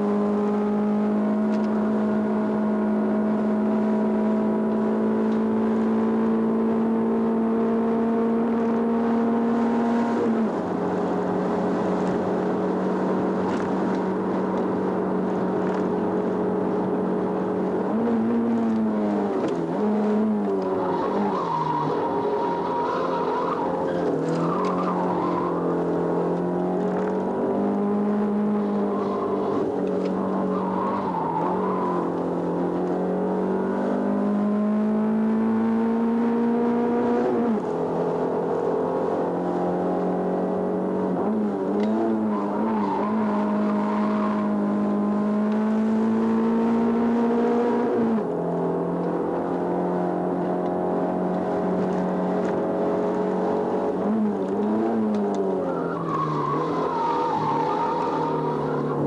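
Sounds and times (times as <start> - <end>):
racing car engine from inside: 0.0 - 59.0.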